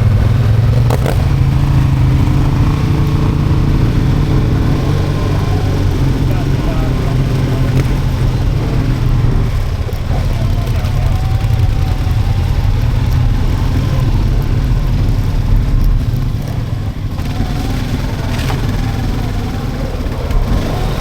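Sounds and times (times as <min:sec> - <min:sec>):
atv engine rumbling: 0:00.0 - 0:21.0.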